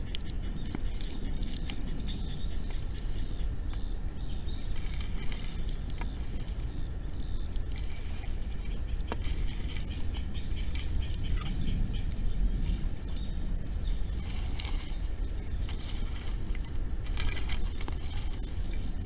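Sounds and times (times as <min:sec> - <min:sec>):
low rumble: 0:00.0 - 0:19.0
wood fire crackling: 0:00.0 - 0:19.0.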